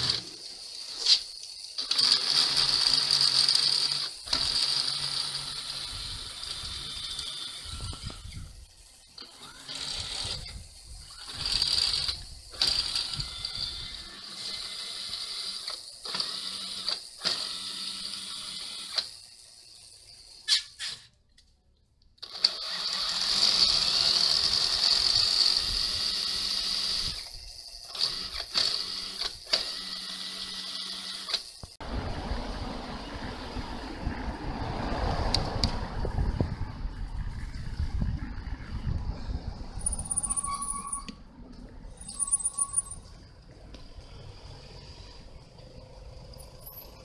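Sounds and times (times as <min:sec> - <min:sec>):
electric motor whine spinning tyre: 0:00.0 - 0:20.5, 0:22.3 - 0:47.0.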